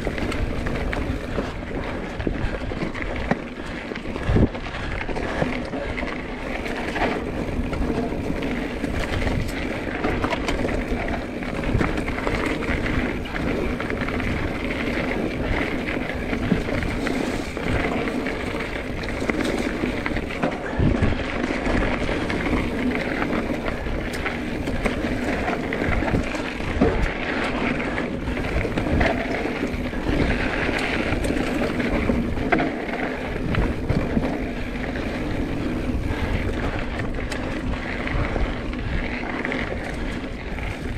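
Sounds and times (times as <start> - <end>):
bike knocks and rattles: 0.0 - 40.9
bike tyres rolling on dirt: 0.0 - 40.9.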